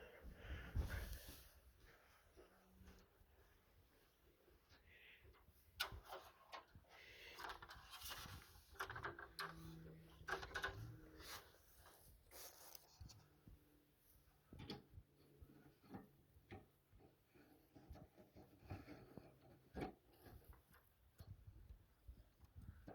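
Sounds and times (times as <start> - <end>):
rustling of handling things: 0.0 - 22.9.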